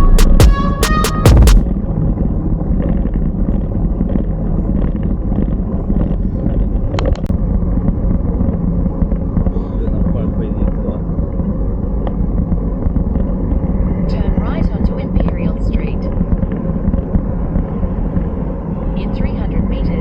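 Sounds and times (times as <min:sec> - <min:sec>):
low road rumble: 0:00.0 - 0:20.0
wind rushing over microphone: 0:01.6 - 0:20.0.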